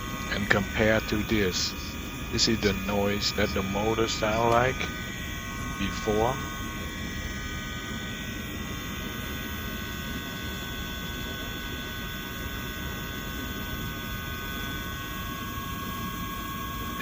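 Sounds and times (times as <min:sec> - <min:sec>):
dishwasher motor whining and rumbling: 0:00.0 - 0:17.0.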